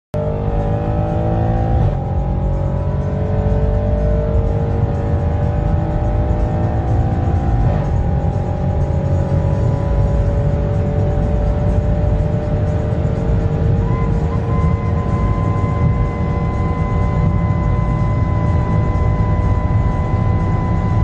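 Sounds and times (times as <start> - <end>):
car engine accelerating hard: 0.2 - 21.0
road and wind rumble: 0.2 - 21.0.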